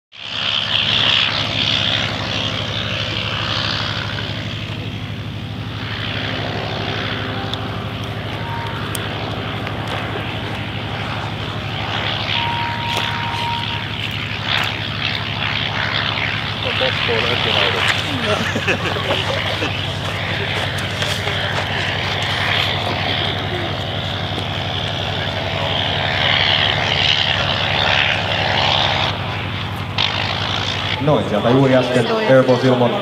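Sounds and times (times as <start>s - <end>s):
propeller plane engine overhead: 0.1s - 33.0s.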